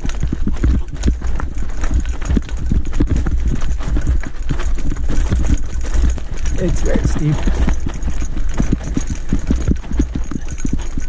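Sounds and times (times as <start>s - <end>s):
bike rattling over stones: 0.0s - 11.0s.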